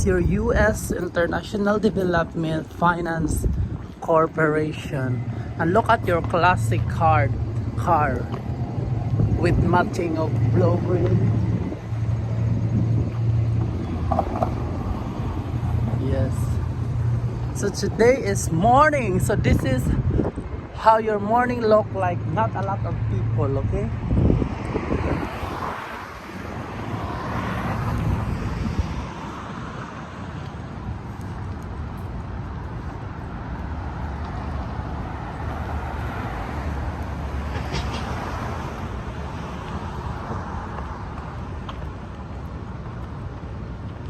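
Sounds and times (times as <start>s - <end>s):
vehicles passing on street: 0.0s - 44.0s.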